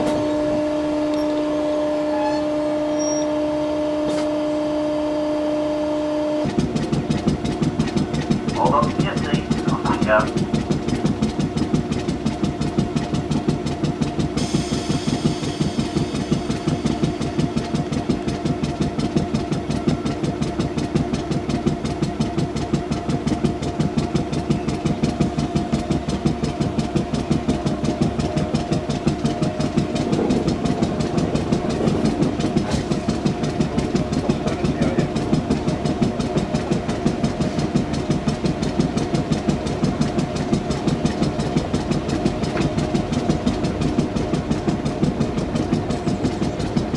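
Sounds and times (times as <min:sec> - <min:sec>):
electric train mechanical hum: 0:00.0 - 0:46.9
wheel-on-rail noise: 0:00.0 - 0:46.9.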